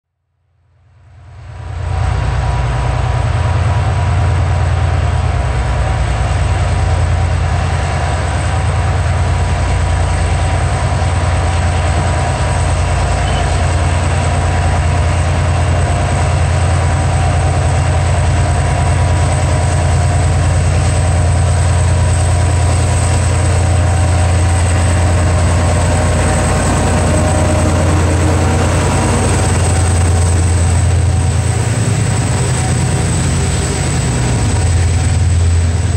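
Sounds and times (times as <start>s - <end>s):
diesel locomotive engine drone: 0.8s - 35.9s.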